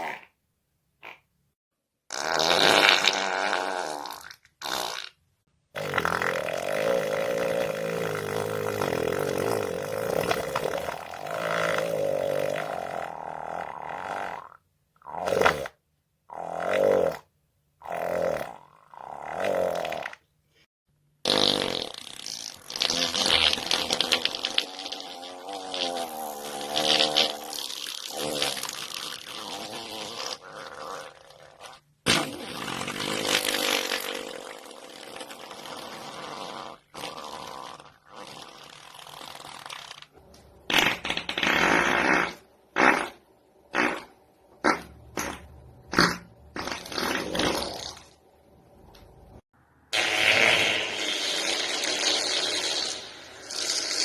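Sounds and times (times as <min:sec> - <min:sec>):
fart: 0:00.0 - 0:00.4, 0:01.0 - 0:01.3, 0:02.1 - 0:05.2, 0:05.8 - 0:20.2, 0:21.2 - 0:48.2, 0:49.9 - 0:54.0.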